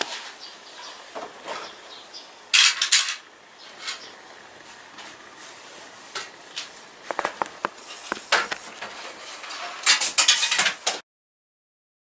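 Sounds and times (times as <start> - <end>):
air conditioner clicks and knocks: 0.0 - 11.0.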